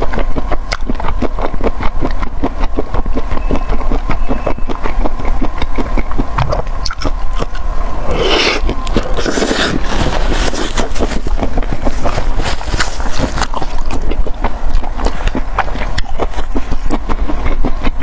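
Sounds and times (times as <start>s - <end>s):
smacking or slurping: 0.0s - 18.0s
steady low hum: 0.0s - 18.0s
wet chewing: 0.0s - 18.0s.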